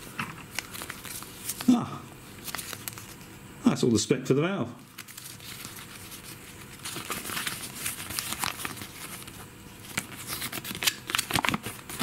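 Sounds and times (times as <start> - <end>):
paper crinkling: 0.0 - 1.7, 2.4 - 3.4, 4.9 - 12.0.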